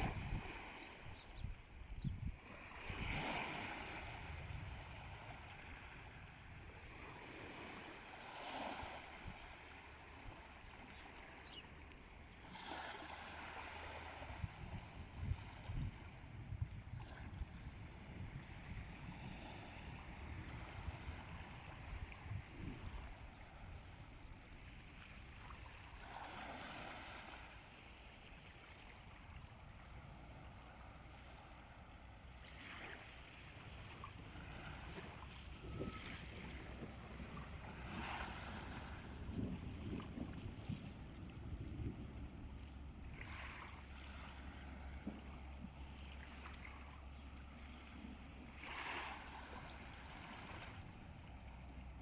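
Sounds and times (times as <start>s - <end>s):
wind rumbling on microphone: 0.0s - 12.4s, 13.6s - 26.6s, 33.5s - 52.0s
small waves washing ashore: 0.0s - 52.0s.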